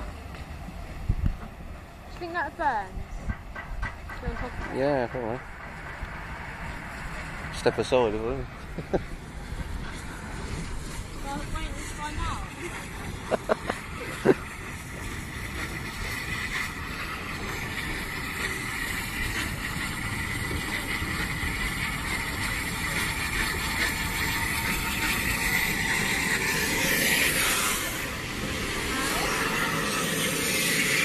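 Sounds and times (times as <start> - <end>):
steam locomotive hissing rumble: 0.0 - 31.0.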